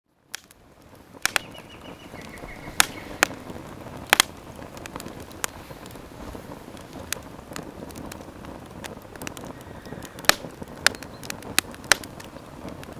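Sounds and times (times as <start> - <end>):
campfire crackling and popping: 0.0 - 12.9
hiss of burning fire: 0.1 - 12.9.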